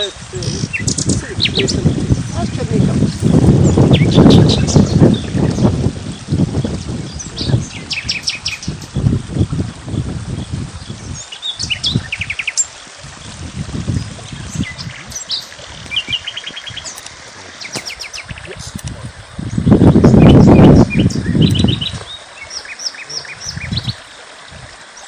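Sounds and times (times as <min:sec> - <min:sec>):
birds chirping and trilling: 0:00.0 - 0:09.1, 0:09.9 - 0:24.2.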